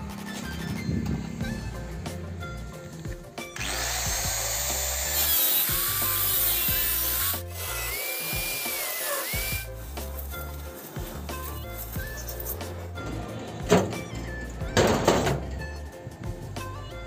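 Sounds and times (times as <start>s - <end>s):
angle grinder grinding metal: 0.0s - 15.6s
background music: 0.0s - 17.0s.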